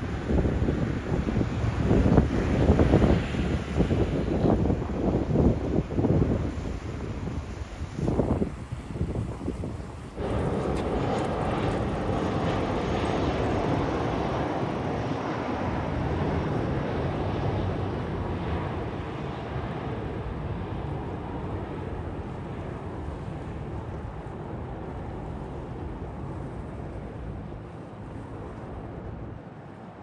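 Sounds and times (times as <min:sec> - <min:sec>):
airplane engine passing: 0:00.0 - 0:24.4.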